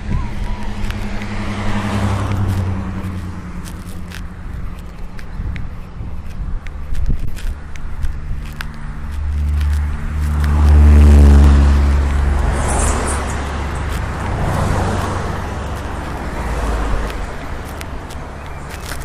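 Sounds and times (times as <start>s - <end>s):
vehicle engine passing: 0.0s - 6.9s, 7.5s - 19.0s
rushing road noise: 0.0s - 19.0s.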